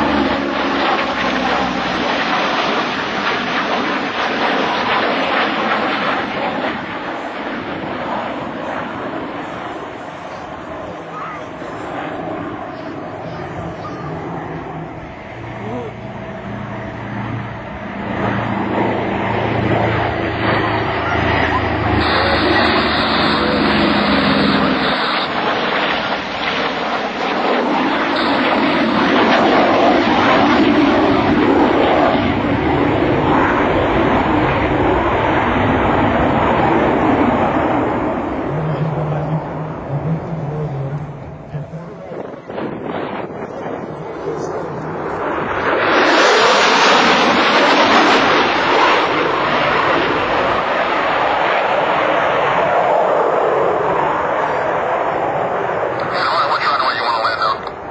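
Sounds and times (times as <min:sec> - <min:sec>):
jet roar: 0:00.0 - 0:57.9.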